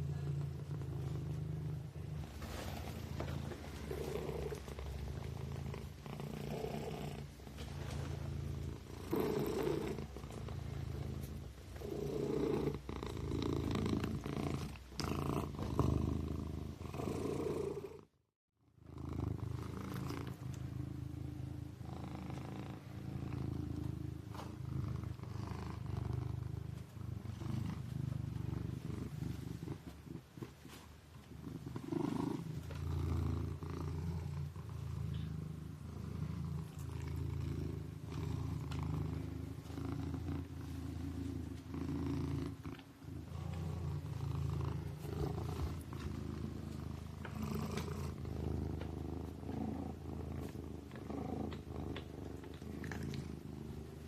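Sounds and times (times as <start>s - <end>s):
kitten purring: 0.0s - 18.2s, 18.8s - 54.0s.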